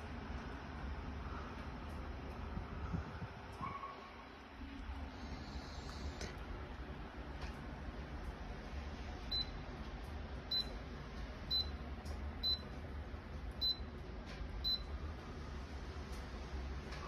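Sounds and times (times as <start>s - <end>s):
humidifier low hum: 0.0s - 17.0s.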